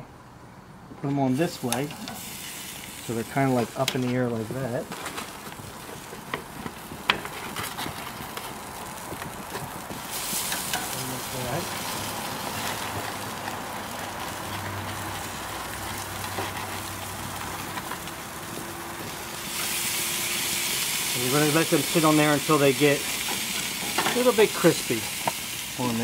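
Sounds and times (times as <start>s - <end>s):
meat sizzling on a grill: 1.3s - 26.0s.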